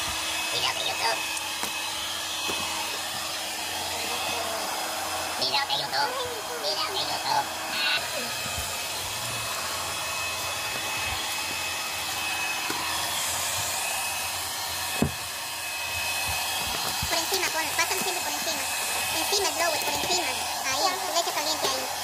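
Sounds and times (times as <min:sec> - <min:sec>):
hair dryer blowing with whine: 0:00.0 - 0:22.0.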